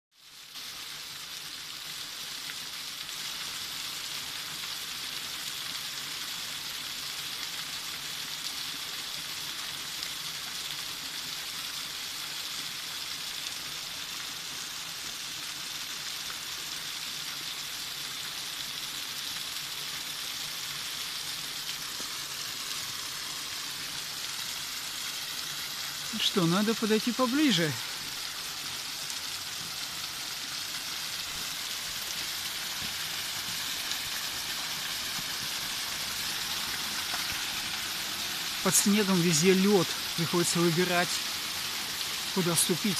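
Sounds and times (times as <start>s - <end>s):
small waterfall splashing: 0.1s - 42.9s.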